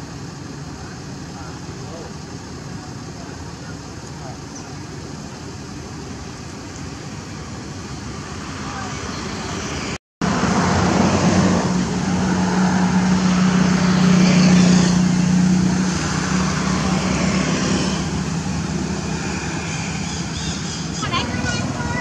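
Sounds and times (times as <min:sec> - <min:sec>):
road traffic: 0:00.0 - 0:22.0
vehicle engine hum: 0:00.0 - 0:22.0.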